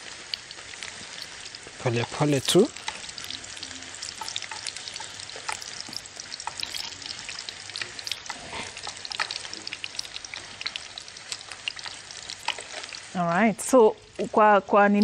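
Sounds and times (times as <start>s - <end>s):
food sizzling in frying pans: 0.0s - 15.0s.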